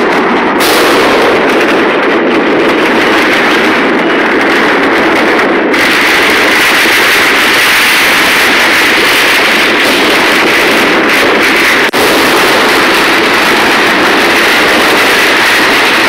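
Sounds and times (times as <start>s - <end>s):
firecrackers and fireworks crackling: 0.0s - 16.0s.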